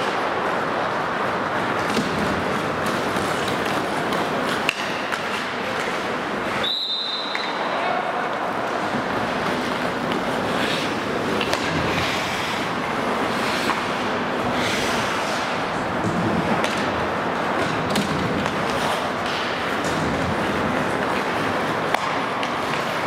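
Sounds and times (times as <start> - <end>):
skate blades scraping ice: 0.0 - 7.5, 8.5 - 23.0
stick hitting puck: 1.5 - 6.2, 8.6 - 23.0.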